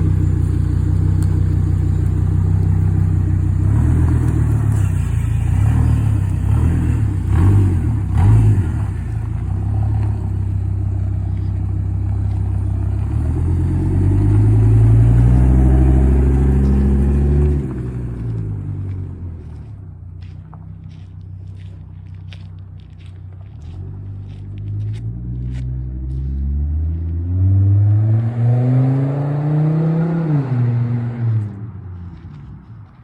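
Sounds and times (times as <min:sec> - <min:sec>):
car engine revving: 0:00.0 - 0:19.5, 0:23.4 - 0:33.0.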